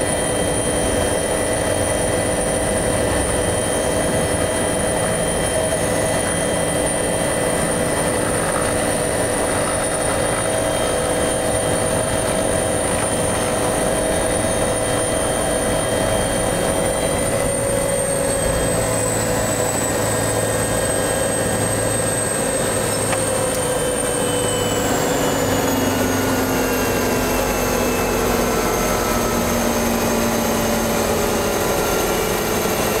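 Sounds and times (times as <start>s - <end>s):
helicopter engine and rotor: 0.0s - 33.0s
high-pitched whine: 0.0s - 33.0s.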